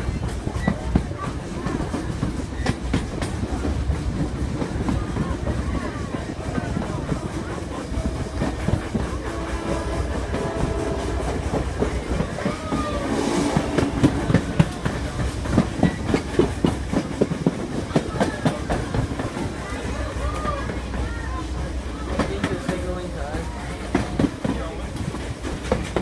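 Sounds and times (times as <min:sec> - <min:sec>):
wheels clicking over rail joints: 0:00.0 - 0:21.4
train rumbling on track: 0:00.0 - 0:26.0.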